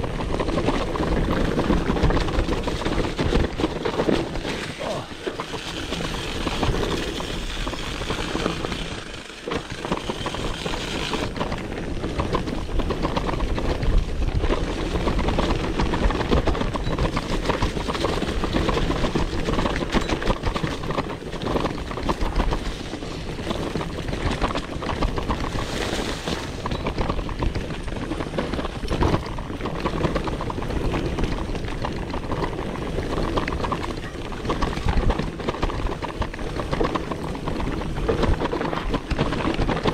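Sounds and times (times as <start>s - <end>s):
bike knocks and rattles: 0.0s - 39.9s
bike tyres on dirt: 0.0s - 39.9s
wind rushing over microphone: 0.0s - 39.9s.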